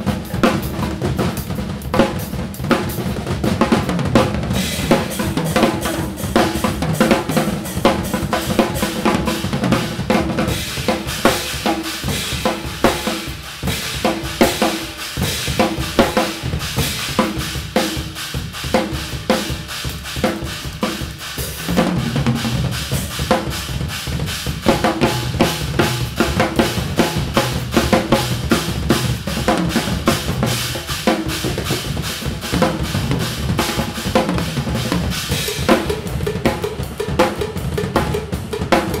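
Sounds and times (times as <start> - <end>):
drum kits playing: 0.0 - 39.0.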